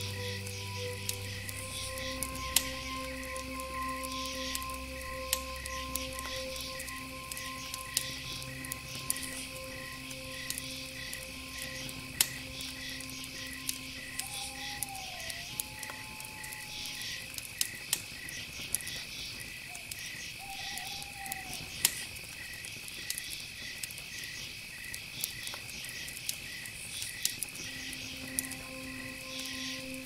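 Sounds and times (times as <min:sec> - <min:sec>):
insects chirping: 0:00.0 - 0:30.0
pulsing insect chirp: 0:00.0 - 0:30.0.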